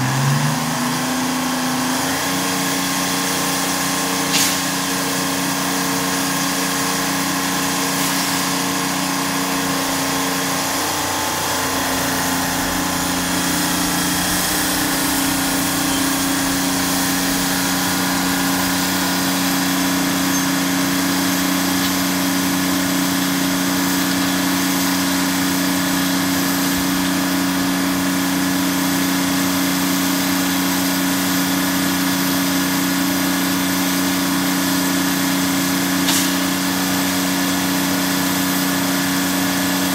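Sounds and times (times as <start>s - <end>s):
crane engine idling: 0.0s - 39.9s.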